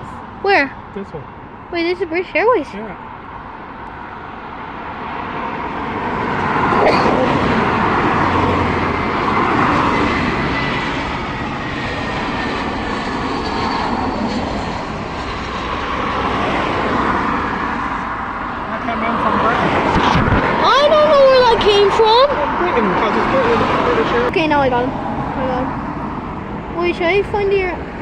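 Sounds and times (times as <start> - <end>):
jet airliner engine roar: 0.0 - 28.0.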